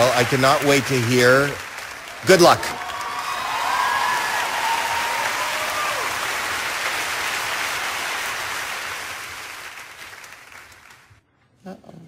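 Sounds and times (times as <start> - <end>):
studio audience applauding: 0.0 - 11.2.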